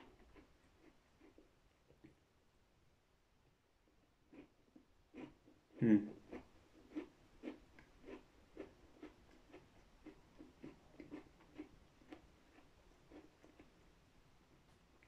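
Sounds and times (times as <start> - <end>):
crunchy chewing of cookie: 0.0 - 2.2, 4.0 - 14.1.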